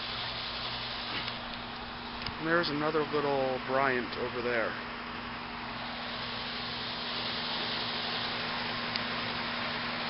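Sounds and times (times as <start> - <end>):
fan air rushing: 0.0 - 10.0.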